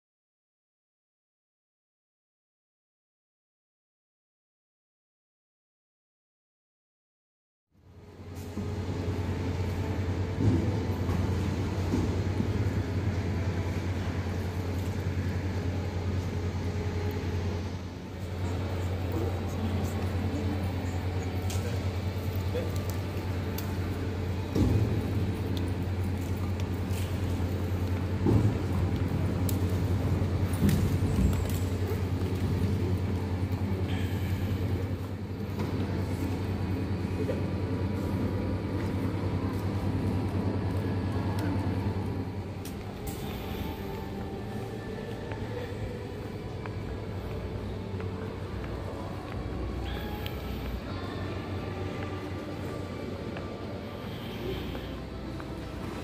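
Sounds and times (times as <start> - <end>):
vehicle engine hum: 7.8 - 56.0
jet airliner drone: 7.9 - 56.0.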